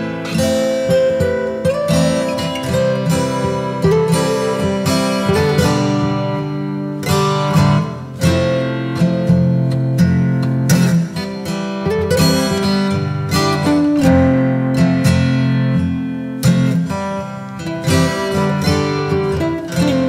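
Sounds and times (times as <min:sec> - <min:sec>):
acoustic guitar strummed and picked: 0:00.0 - 0:20.0.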